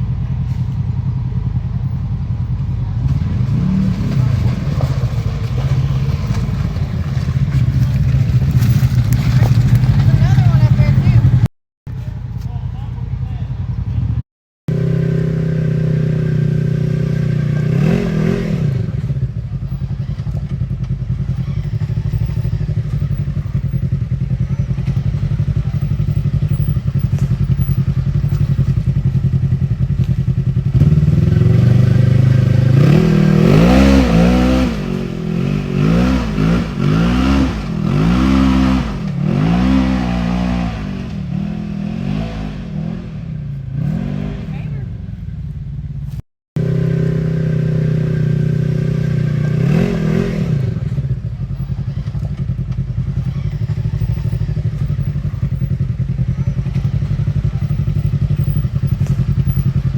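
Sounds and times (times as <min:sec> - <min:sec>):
engine running and revving: 0:00.0 - 0:12.1, 0:13.8 - 0:59.9.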